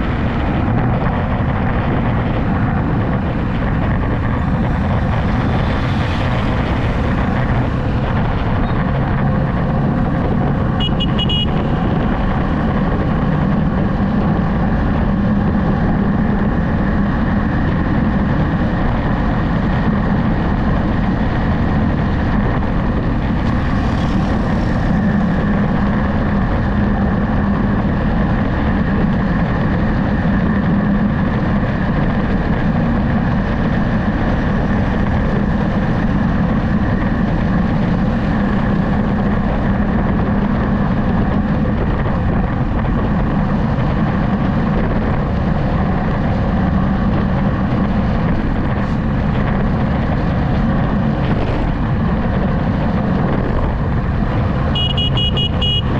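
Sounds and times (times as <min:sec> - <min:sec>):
vehicle engine hum: 0:00.0 - 0:55.9
wind and road noise: 0:00.0 - 0:55.9.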